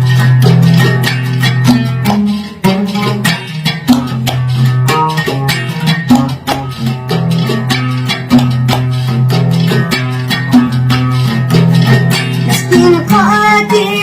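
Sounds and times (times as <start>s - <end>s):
plucked string instrument: 0.0s - 14.0s.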